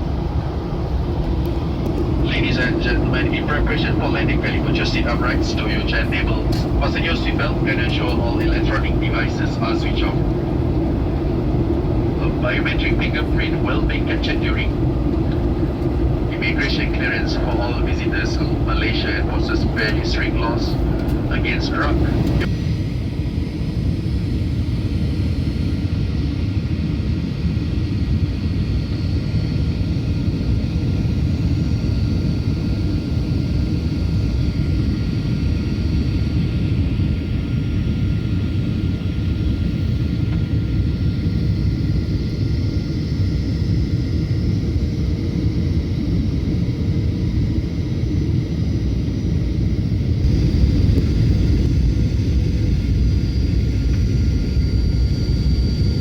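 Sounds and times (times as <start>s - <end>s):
airplane cabin engine rumble: 0.0s - 56.0s
faint steady whine tones: 0.0s - 56.0s.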